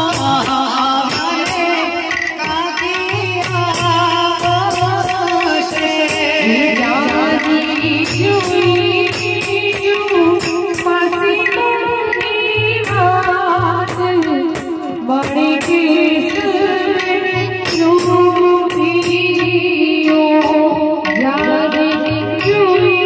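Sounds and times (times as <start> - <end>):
drums keeping a steady beat: 0.0 - 23.0
woman singing into a microphone: 0.0 - 23.0.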